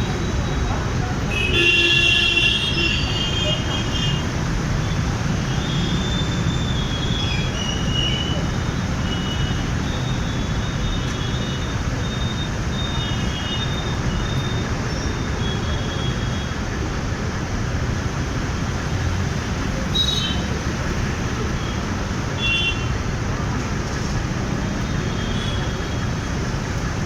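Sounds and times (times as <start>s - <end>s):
road and traffic noise: 0.0s - 27.0s.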